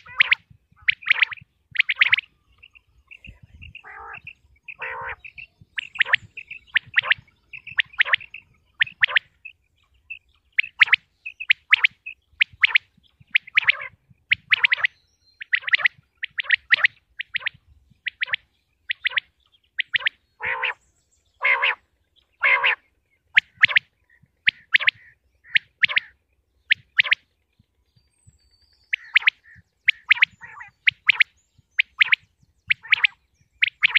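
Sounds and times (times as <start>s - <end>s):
quail calling: 0.0s - 9.5s, 10.6s - 20.8s, 21.4s - 21.8s, 22.4s - 27.2s, 28.9s - 33.9s.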